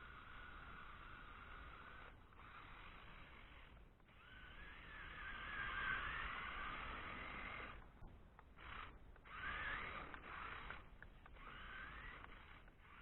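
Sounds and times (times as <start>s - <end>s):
rc car motor whining: 0.0s - 13.0s.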